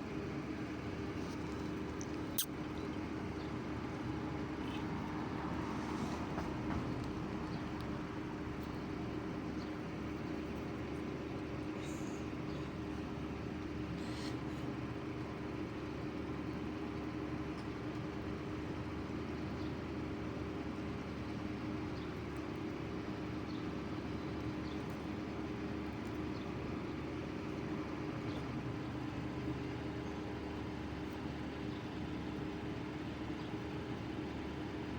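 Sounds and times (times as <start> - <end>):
low machine hum: 0.0 - 34.9.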